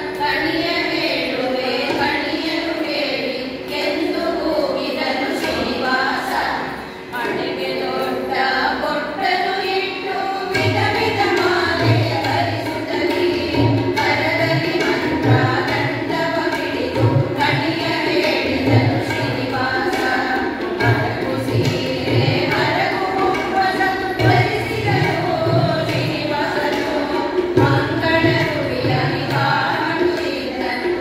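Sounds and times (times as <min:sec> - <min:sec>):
women singing a devotional song: 0:00.0 - 0:31.0.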